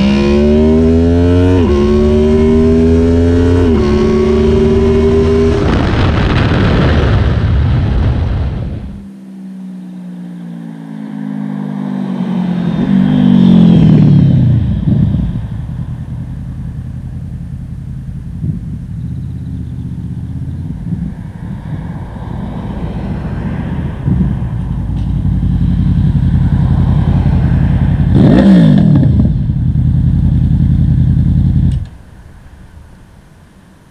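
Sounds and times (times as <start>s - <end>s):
motorcycle engine passing by: 0.0s - 7.2s, 10.2s - 31.8s.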